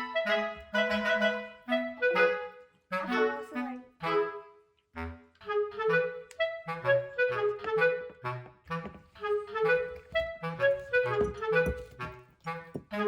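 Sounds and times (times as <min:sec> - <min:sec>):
bouncy melody over bass line: 0:00.0 - 0:04.4, 0:05.0 - 0:13.0.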